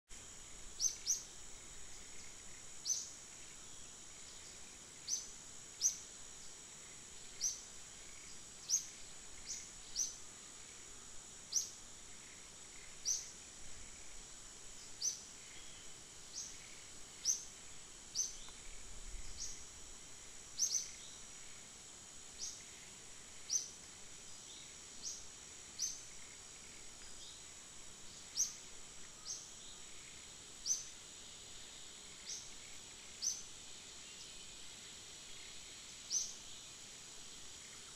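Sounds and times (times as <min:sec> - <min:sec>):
high-pitched insect drone: 0:00.1 - 0:37.9.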